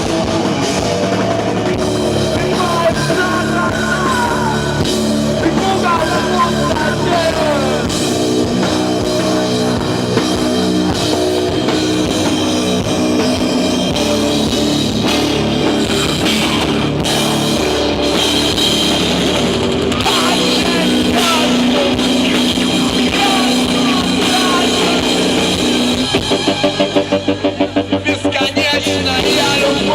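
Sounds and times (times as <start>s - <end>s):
instrumental rock band: 0.0s - 29.9s.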